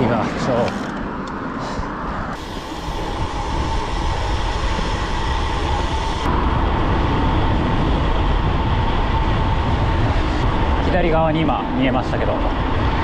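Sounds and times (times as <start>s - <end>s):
bike tyre road noise: 0.0s - 13.0s
thin steady whine: 0.0s - 13.0s
wind rushing over microphone: 0.0s - 13.0s.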